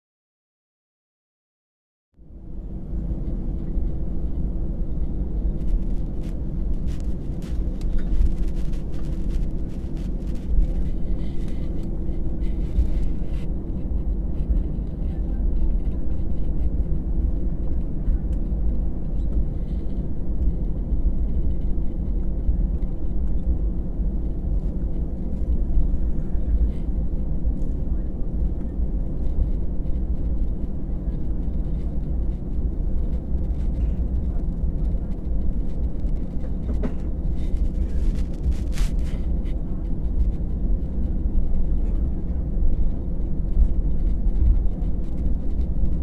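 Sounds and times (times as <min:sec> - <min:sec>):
jet engines idling rumble: 0:02.2 - 0:46.0
cabin hum: 0:02.3 - 0:46.0.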